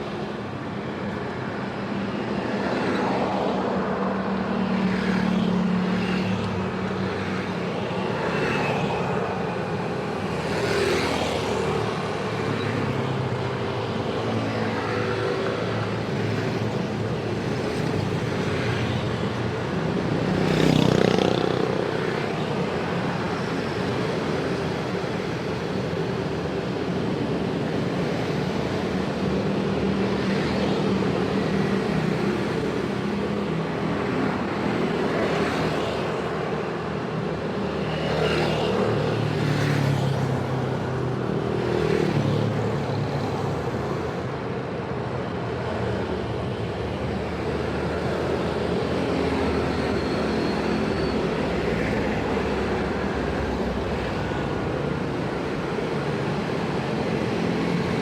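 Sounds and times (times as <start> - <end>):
road traffic engines: 0.0 - 58.0
vehicles passing: 2.3 - 58.0.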